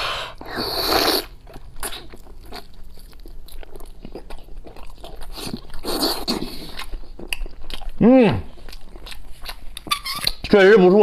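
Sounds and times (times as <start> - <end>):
wet chewing: 0.3 - 11.0.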